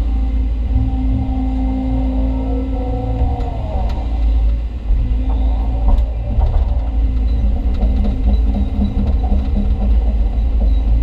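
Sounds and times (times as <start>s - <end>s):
excavator engine rumbling: 0.0s - 11.0s.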